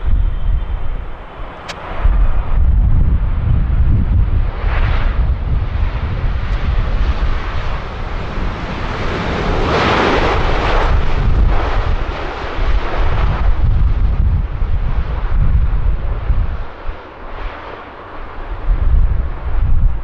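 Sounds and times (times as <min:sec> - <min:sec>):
jet engine roar: 0:00.0 - 0:20.0
wind buffeting microphone: 0:00.0 - 0:20.0.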